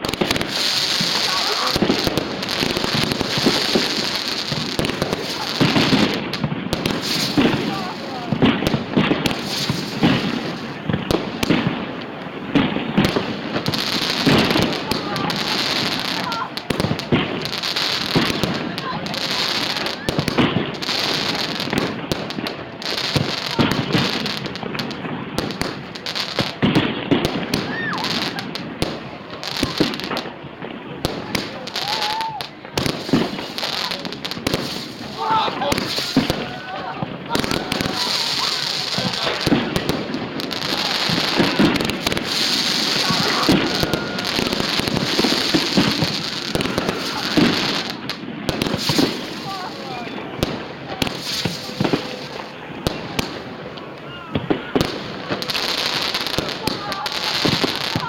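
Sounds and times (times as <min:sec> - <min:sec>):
fireworks bangs: 0:00.0 - 0:58.0
fireworks crackling: 0:00.0 - 0:58.0.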